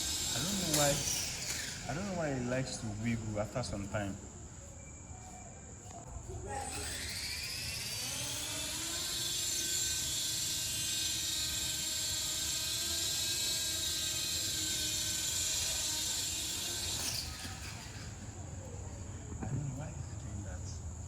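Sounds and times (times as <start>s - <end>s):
rc helicopter motor whining: 0.0s - 4.9s, 5.9s - 20.1s.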